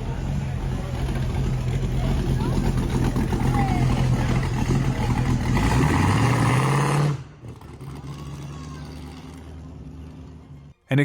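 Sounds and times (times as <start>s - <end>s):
loud engine running: 0.0s - 10.7s.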